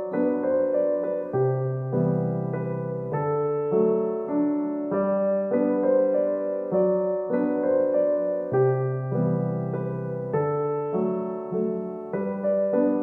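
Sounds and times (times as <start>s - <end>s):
gentle solo piano piece: 0.0s - 13.0s.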